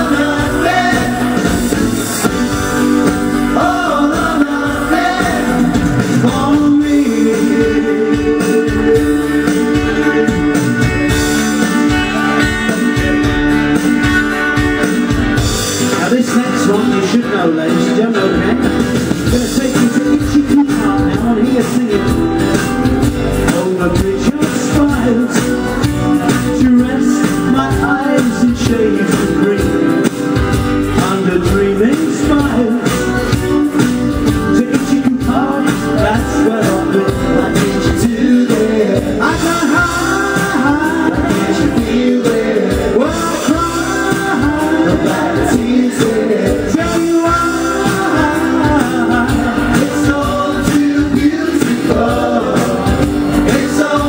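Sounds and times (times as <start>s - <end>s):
man singing into microphone: 0.0s - 2.2s, 3.4s - 13.0s, 15.8s - 22.6s, 23.4s - 33.3s, 34.2s - 54.0s
rock band playing: 0.0s - 54.0s.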